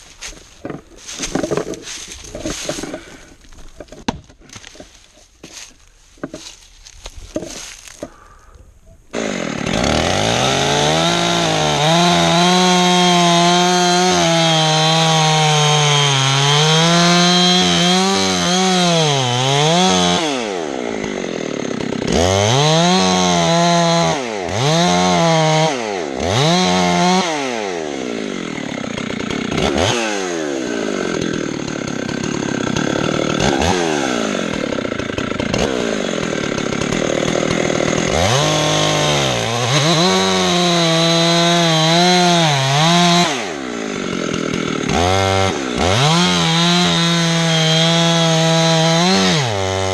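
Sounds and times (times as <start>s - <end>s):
chainsaw revving: 0.0s - 4.0s, 9.1s - 49.9s.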